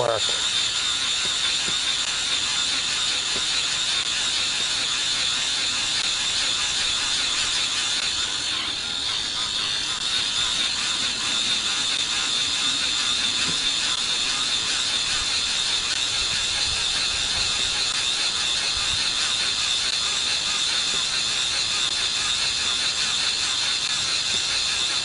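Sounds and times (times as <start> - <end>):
fuel pump running: 0.0 - 25.0.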